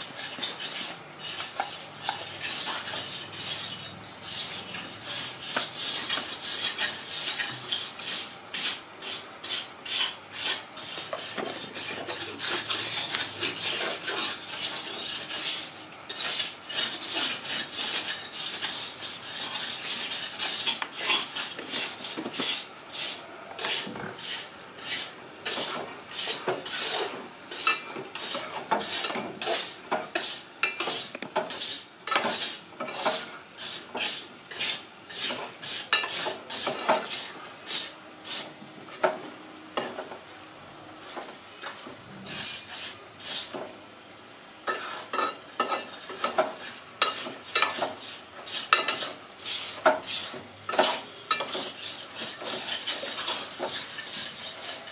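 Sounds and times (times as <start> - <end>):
spoon scraping metal pot: 0.0 - 38.5, 41.6 - 43.6, 44.6 - 54.9
light sizzle: 0.0 - 54.9.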